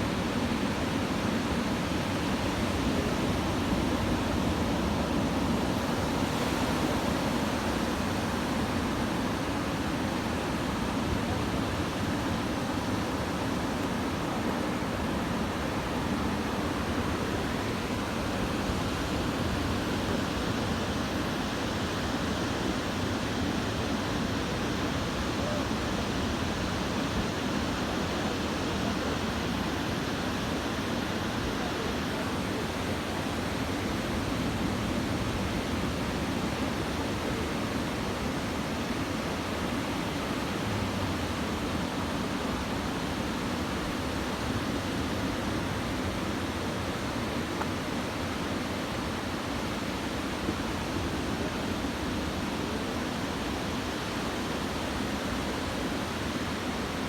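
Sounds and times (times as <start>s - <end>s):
surf breaking on a beach: 0.0s - 57.0s.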